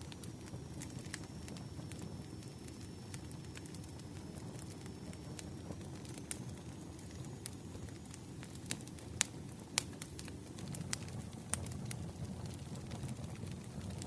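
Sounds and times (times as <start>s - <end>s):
fire rumbling: 0.0s - 14.0s
firewood crackling and popping: 0.0s - 14.0s.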